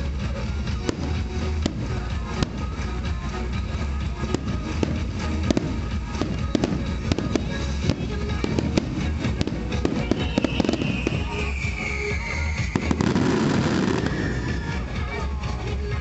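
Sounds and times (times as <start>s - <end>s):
firework crackling: 0.0s - 16.0s.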